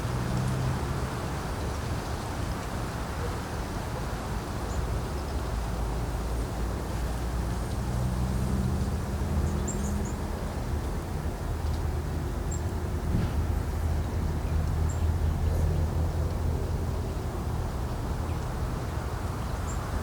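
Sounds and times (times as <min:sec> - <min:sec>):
distant vehicle hum: 0:00.0 - 0:20.0
wind rumbling on microphone: 0:00.0 - 0:20.0.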